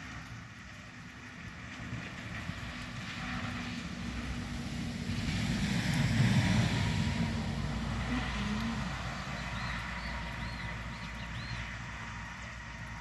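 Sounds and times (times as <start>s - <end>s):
vehicle passing by: 2.1s - 13.0s.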